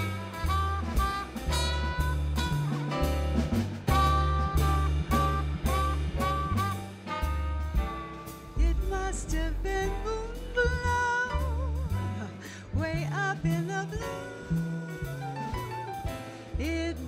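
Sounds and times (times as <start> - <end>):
bass line: 0.0 - 17.0
drums: 0.0 - 17.0
jazz band playing swing: 0.0 - 17.0
piano: 0.0 - 17.0.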